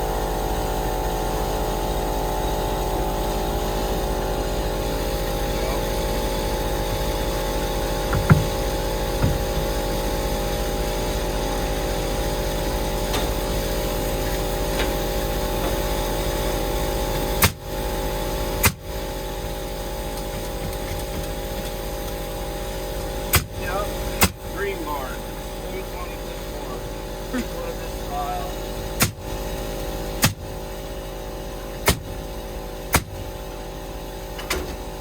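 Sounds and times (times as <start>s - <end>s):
engine humming: 3.8s - 17.8s, 18.5s - 35.0s.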